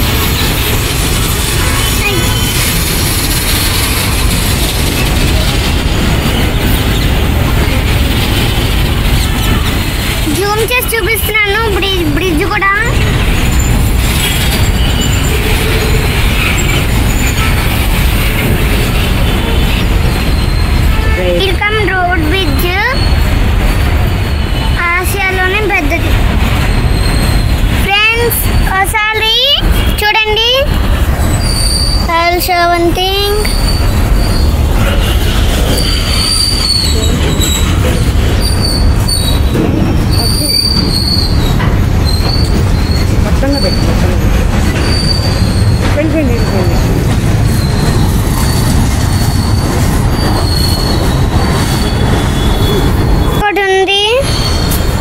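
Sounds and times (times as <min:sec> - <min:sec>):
high-pitched squeals: 0:00.0 - 0:28.9, 0:30.7 - 0:55.0
freight wagons rumbling past: 0:00.0 - 0:55.0
train rolling on rails: 0:00.0 - 0:55.0.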